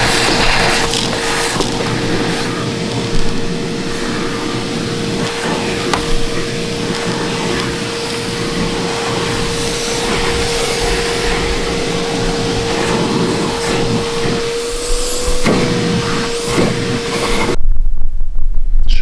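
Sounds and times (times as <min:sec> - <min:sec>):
hiss: 0:00.0 - 0:17.6
small electric motor whine: 0:00.0 - 0:17.6.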